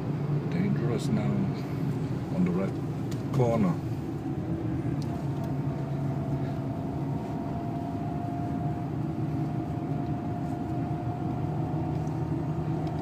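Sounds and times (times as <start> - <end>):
diesel engine running at low speed: 0.0 - 13.0
thin steady whine: 0.0 - 13.0.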